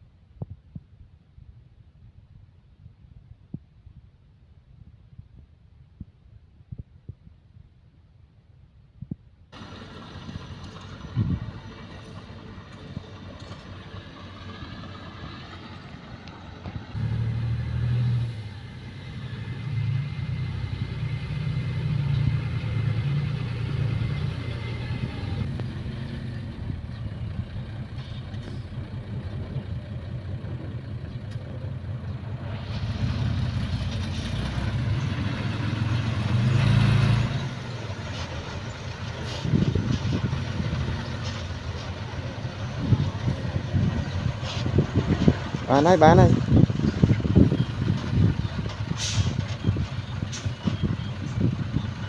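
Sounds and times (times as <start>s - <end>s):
diesel engine working under load: 9.6s - 52.0s.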